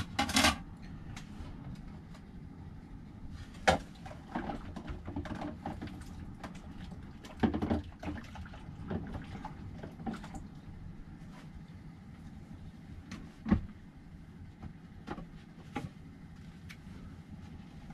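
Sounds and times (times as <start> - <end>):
low background hum: 0.0 - 17.9.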